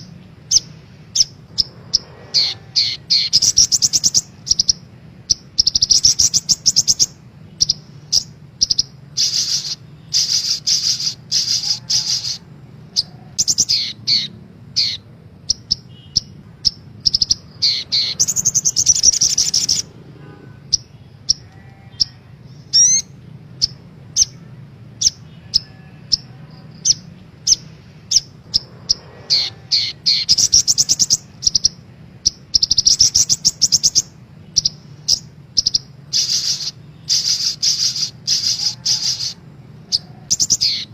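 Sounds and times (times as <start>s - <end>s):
bird twittering trills and chirps: 0.0s - 40.9s
steady low hum: 0.0s - 40.9s.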